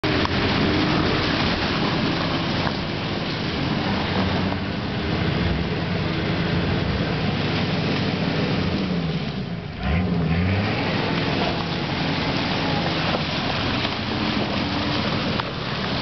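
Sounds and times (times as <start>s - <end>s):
diesel engine under load: 0.0s - 16.0s
tyres churning through mud and ice: 0.0s - 16.0s.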